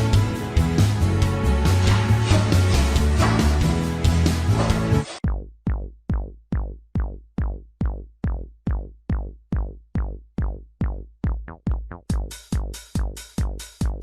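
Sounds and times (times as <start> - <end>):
kick drum beat: 1.8 - 14.0.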